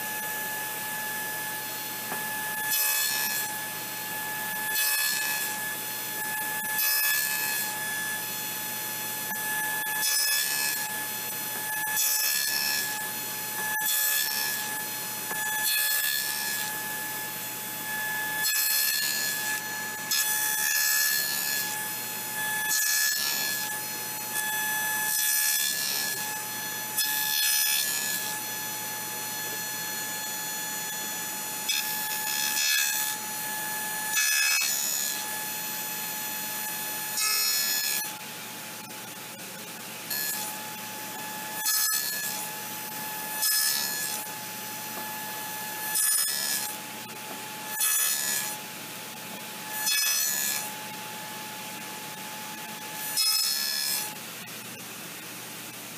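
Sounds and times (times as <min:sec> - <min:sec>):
saw cutting wood: 0:00.0 - 0:54.8
table saw whining: 0:00.0 - 0:54.8.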